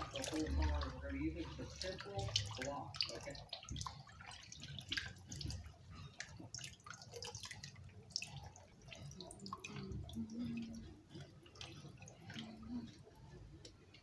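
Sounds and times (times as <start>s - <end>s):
water splashing in a basin: 0.0s - 14.0s.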